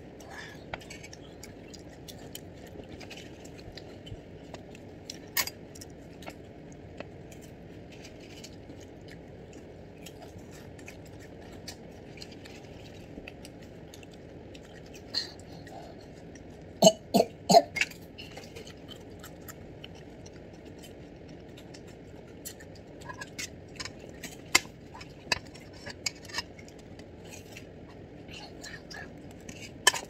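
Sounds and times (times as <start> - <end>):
chewing crunches: 0.2 - 16.8, 17.7 - 28.1.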